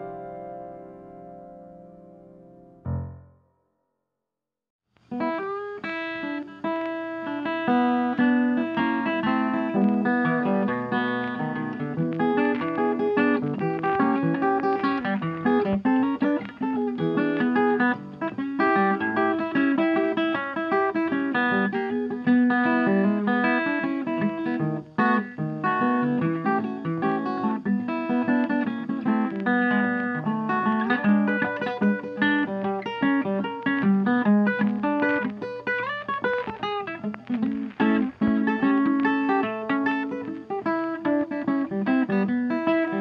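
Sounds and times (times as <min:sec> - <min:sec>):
plucked guitar music: 0:00.0 - 0:03.5, 0:05.1 - 0:43.0.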